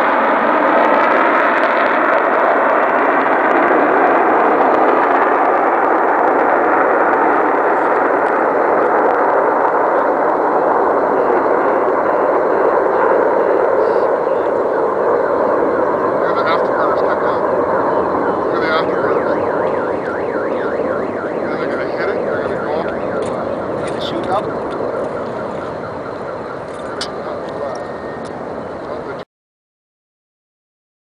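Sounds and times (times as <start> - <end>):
fighter jets roaring overhead: 0.0 - 29.2.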